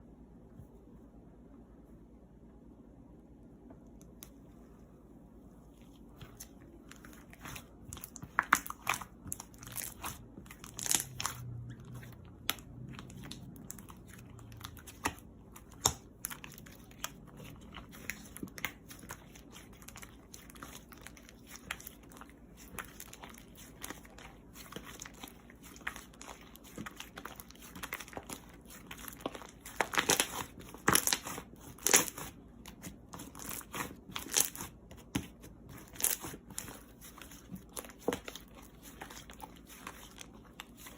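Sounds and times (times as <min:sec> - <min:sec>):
close-up crinkling and crunching: 0:05.7 - 0:40.9.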